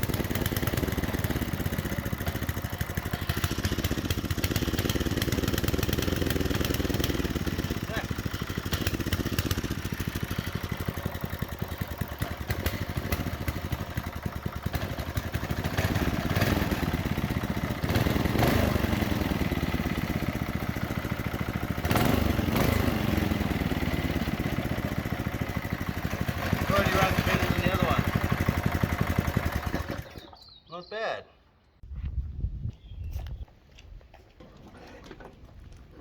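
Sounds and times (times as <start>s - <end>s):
small engine idling and revving: 0.0s - 30.6s.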